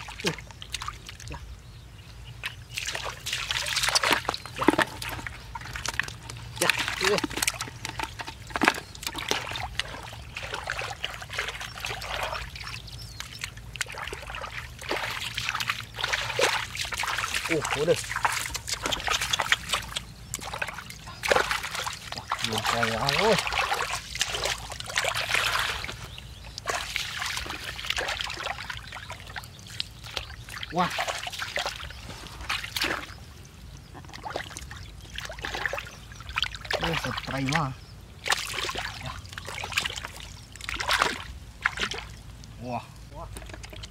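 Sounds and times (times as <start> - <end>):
muddy water sloshing and splashing: 0.0 - 43.9
water trickling: 0.0 - 43.9.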